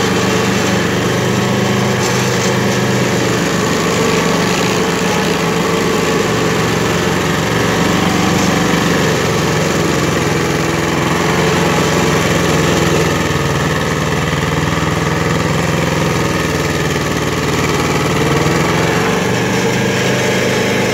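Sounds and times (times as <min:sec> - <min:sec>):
cutter wheel grinding stump: 0:00.0 - 0:20.9
stump grinder engine running: 0:00.0 - 0:20.9.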